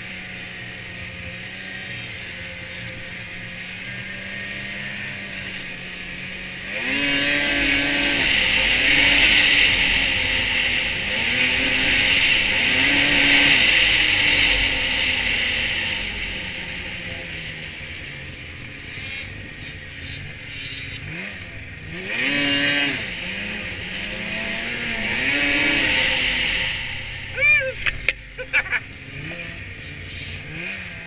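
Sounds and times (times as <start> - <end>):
snowmobile engine revving: 0.0 - 31.0.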